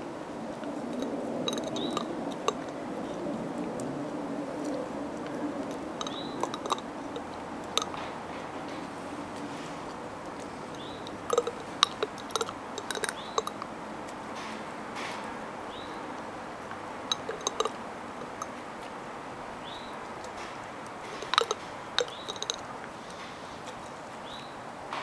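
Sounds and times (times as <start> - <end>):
dog licking glass jar: 0.6 - 4.0, 4.6 - 14.6, 15.7 - 19.0, 19.6 - 24.4.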